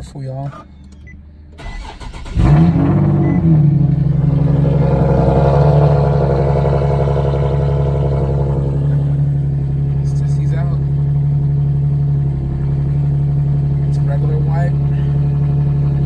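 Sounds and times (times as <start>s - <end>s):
car engine starting and idling: 0.0s - 16.0s.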